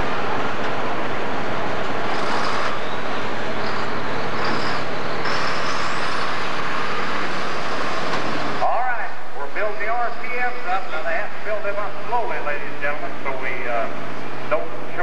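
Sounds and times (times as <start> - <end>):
high whine: 0.0 - 15.0
tractor diesel engine running: 0.0 - 15.0.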